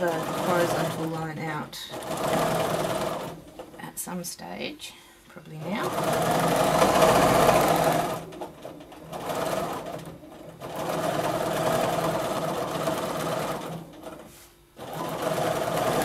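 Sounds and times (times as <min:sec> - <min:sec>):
sewing machine stitching: 0:00.0 - 0:03.8, 0:05.6 - 0:16.0.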